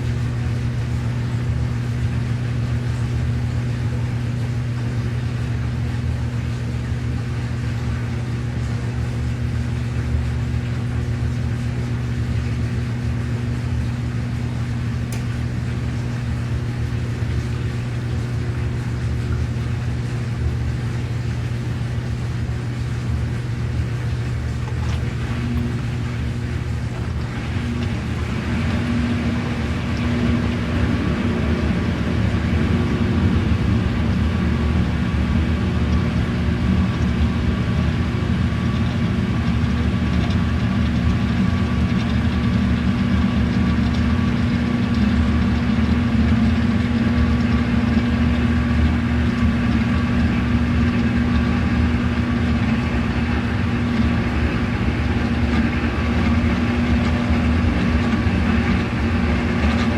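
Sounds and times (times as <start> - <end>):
washing machine motor hum: 0.0 - 59.9.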